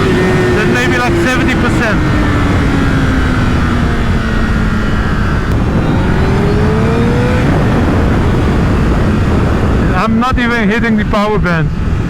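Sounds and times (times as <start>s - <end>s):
motorcycle engine accelerating: 0.0s - 10.9s
wind noise on microphone: 0.0s - 12.0s.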